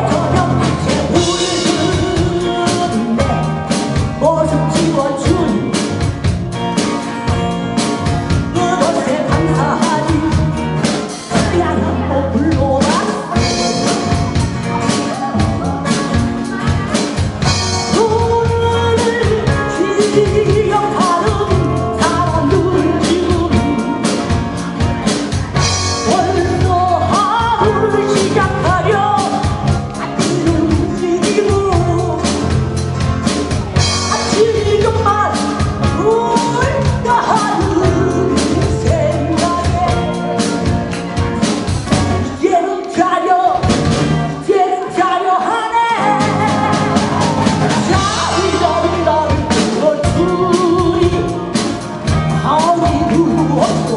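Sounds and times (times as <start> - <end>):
live rock-pop band: 0.0 - 53.9
person singing: 0.0 - 53.9.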